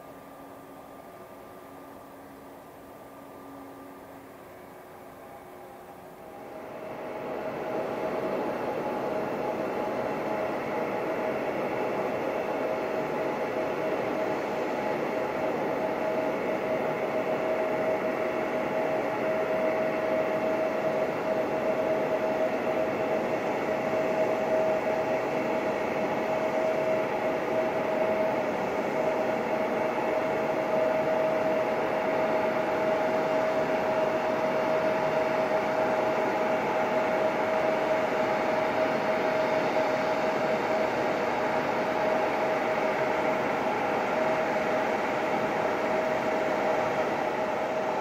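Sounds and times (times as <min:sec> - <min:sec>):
jet engines whining at idle: 0:00.0 - 0:48.0.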